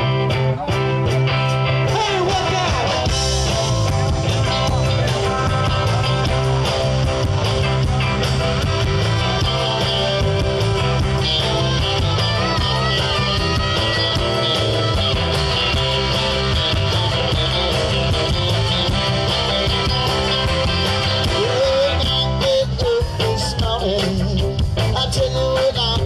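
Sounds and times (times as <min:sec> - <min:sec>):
drum kit: 0:00.0 - 0:26.0
electric guitars: 0:00.0 - 0:26.0
lead guitar bending notes: 0:00.0 - 0:26.0.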